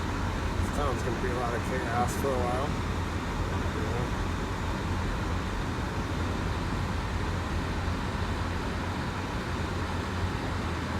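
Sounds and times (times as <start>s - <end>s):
car cabin engine and road rumble: 0.0s - 10.9s.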